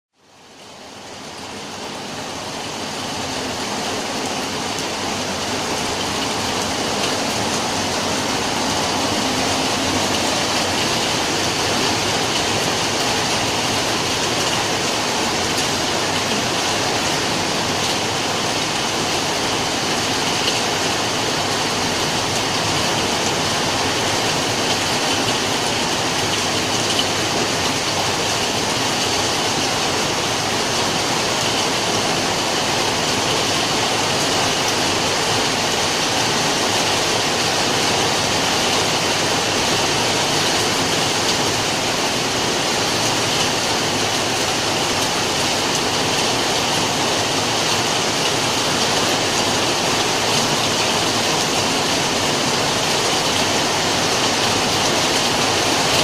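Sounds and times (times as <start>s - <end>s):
steady rainfall: 0.1s - 56.0s.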